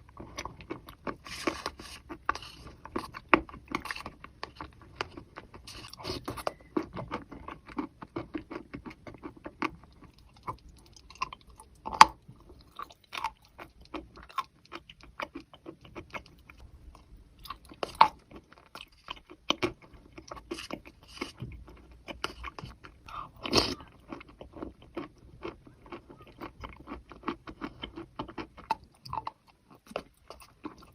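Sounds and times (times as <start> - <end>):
chewing and crunching chalk: 0.0 - 30.9.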